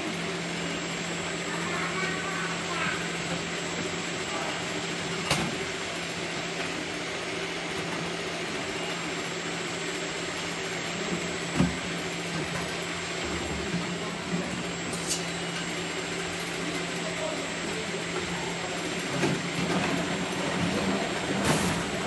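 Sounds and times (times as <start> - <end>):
machine and conveyor humming: 0.0 - 22.0.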